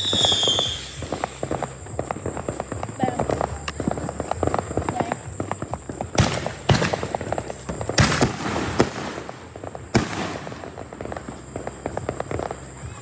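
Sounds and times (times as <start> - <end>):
firecrackers crackling: 0.0 - 13.0
fireworks bangs: 0.0 - 13.0.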